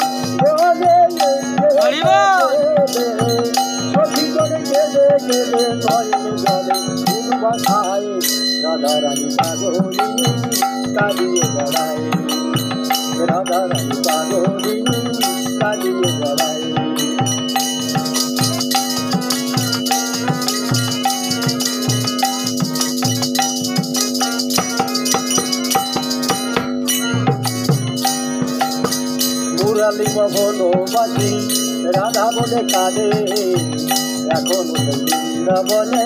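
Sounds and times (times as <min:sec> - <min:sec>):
hand drum beating: 0:00.0 - 0:08.2, 0:09.3 - 0:36.0
jingling percussion: 0:00.0 - 0:36.0
wavering melody line: 0:00.0 - 0:36.0.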